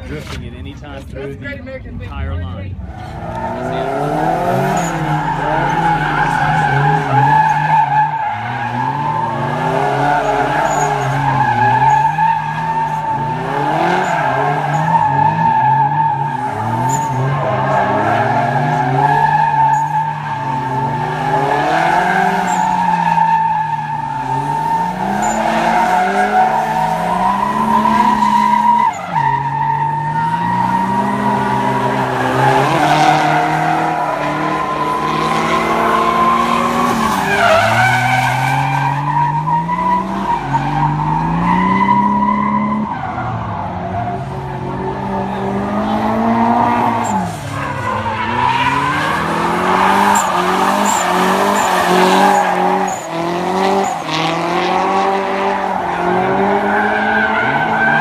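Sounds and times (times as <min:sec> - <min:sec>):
car engines revving: 0:00.0 - 0:58.0
tires squealing: 0:02.7 - 0:58.0.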